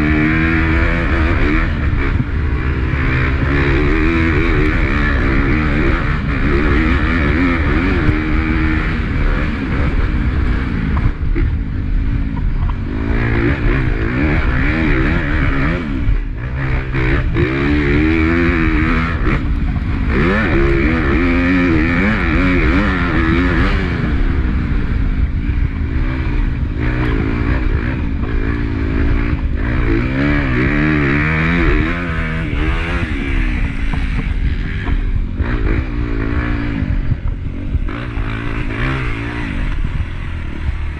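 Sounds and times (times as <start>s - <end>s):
motocross bike engine revving: 0.0s - 40.9s
wind noise: 0.0s - 40.9s.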